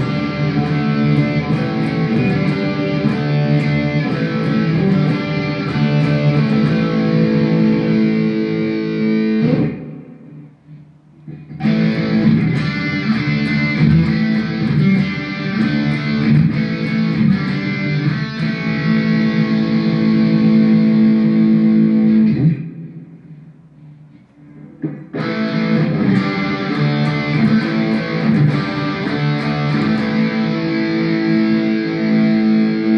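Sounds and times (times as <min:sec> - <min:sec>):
electric guitar ringing chords: 0:00.0 - 0:32.9.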